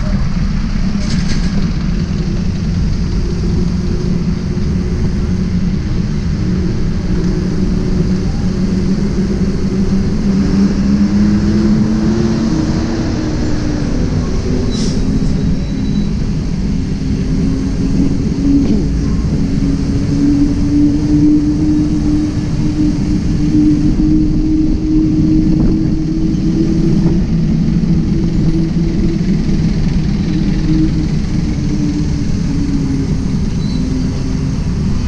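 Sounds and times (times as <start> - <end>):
traffic engines humming: 0.0 - 35.0.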